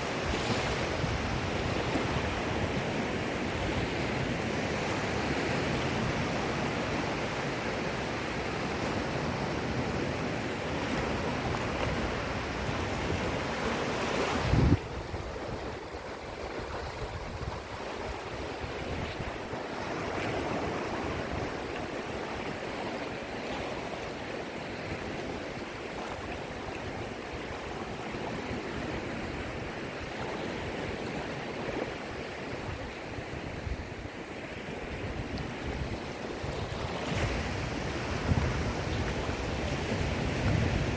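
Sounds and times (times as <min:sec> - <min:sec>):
sea waves washing on shore: 0:00.0 - 0:40.9
wind on microphone: 0:00.0 - 0:40.9.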